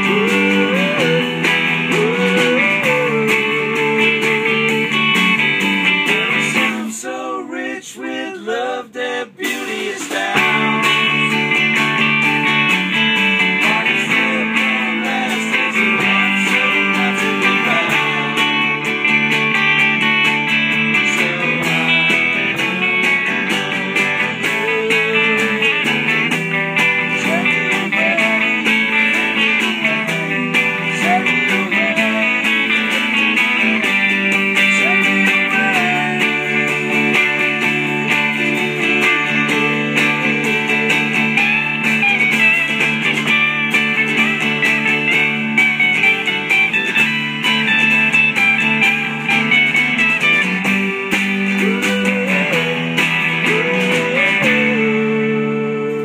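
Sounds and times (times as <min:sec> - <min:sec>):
drum kit with cymbals: 0:00.0 - 0:06.8, 0:09.4 - 0:55.0
electric guitars playing: 0:00.0 - 0:07.7, 0:09.4 - 0:56.0.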